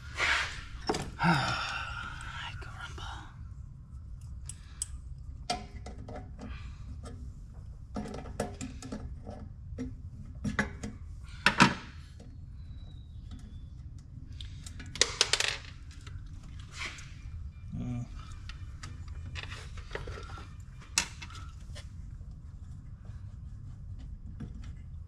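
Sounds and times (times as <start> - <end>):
steady low hum: 0.0 - 15.0, 15.7 - 25.0.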